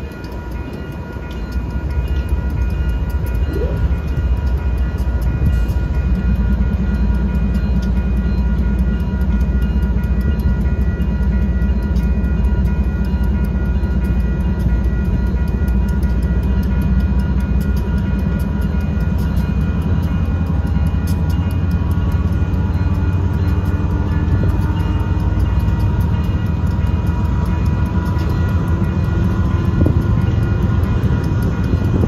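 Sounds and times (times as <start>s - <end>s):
crossing signal bell ringing: 0.0s - 32.0s
diesel locomotives rumbling: 0.0s - 32.0s.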